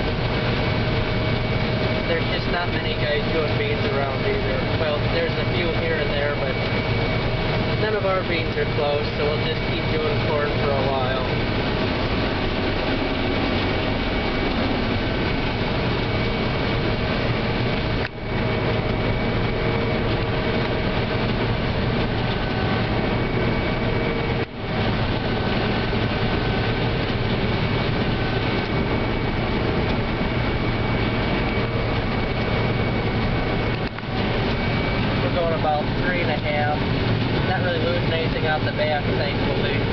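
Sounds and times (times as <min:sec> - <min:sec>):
combine harvester machinery drone: 0:00.0 - 0:39.9.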